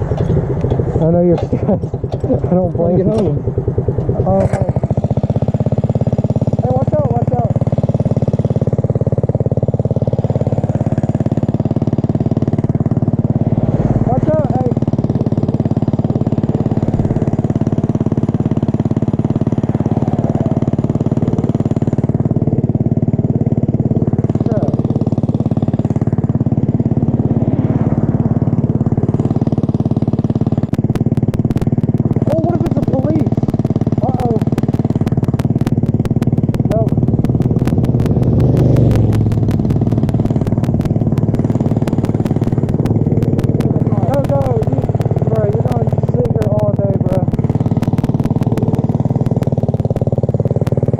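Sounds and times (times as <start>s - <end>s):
motorbike engine running steadily: 0.0s - 50.9s
rapid ticking: 0.0s - 50.9s.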